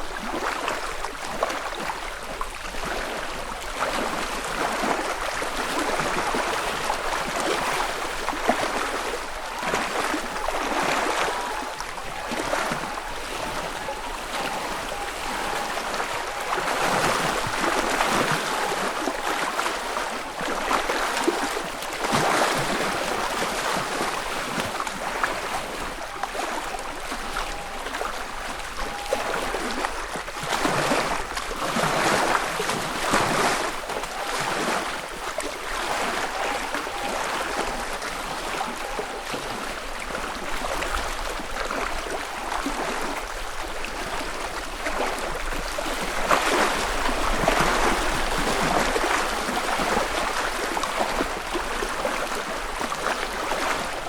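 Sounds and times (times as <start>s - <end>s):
ripples lapping against shore: 0.0s - 54.0s.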